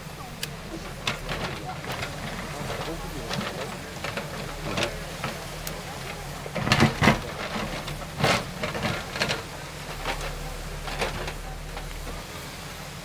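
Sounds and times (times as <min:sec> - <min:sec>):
diesel engine running: 0:00.0 - 0:13.0
sharp knocks and clanks: 0:00.8 - 0:12.2.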